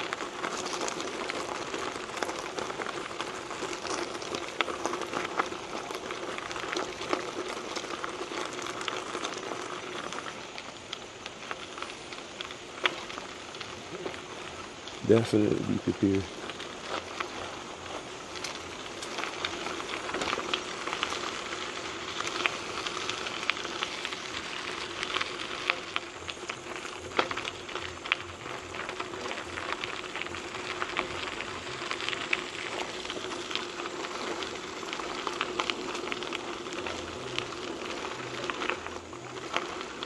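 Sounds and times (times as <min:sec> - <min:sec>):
bike tyres rolling over gravel: 0:00.0 - 0:40.0.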